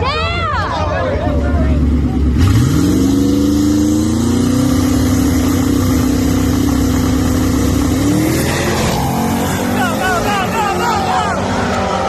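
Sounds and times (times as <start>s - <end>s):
drag car engine revving: 1.7s - 12.0s.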